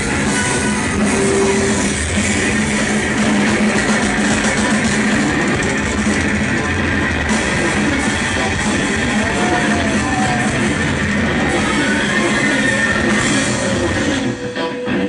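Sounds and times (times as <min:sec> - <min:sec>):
bass: 0:00.0 - 0:15.0
drums: 0:00.0 - 0:15.0
electric guitar: 0:00.0 - 0:15.0.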